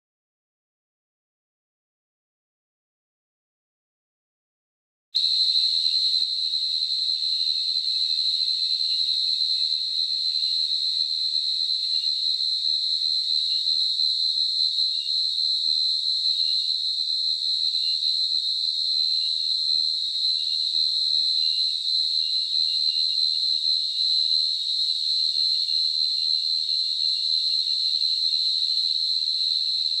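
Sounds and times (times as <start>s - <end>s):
cricket trilling: 5.2s - 30.0s.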